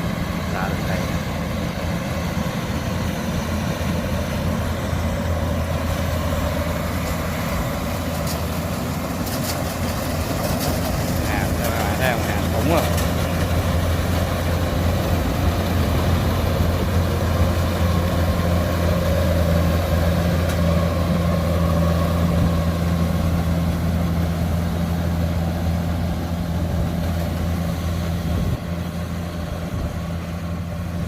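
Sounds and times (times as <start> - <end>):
combine harvester engine humming: 0.0 - 31.0.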